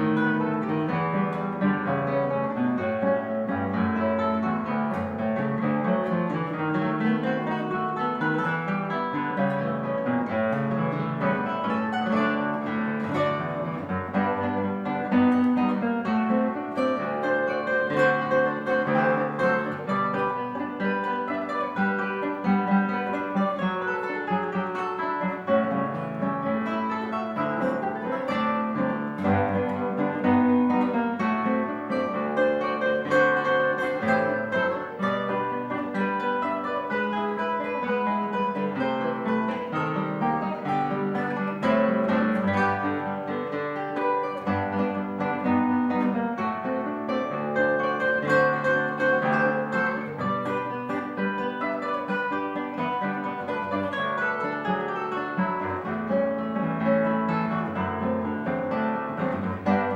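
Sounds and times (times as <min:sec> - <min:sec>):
solo acoustic guitar: 0:00.0 - 0:59.9.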